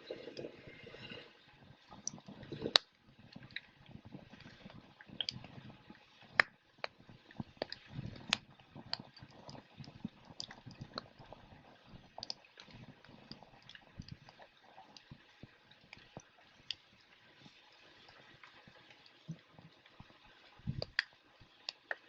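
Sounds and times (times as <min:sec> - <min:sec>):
campfire crackling: 0:01.9 - 0:22.0.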